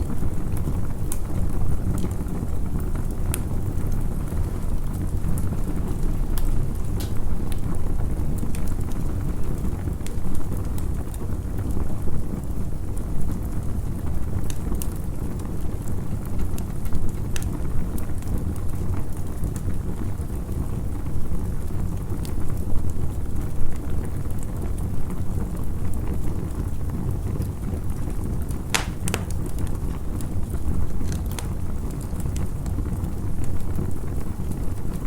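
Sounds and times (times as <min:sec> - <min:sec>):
campfire crackling and popping: 0:00.0 - 0:21.0, 0:26.9 - 0:35.0.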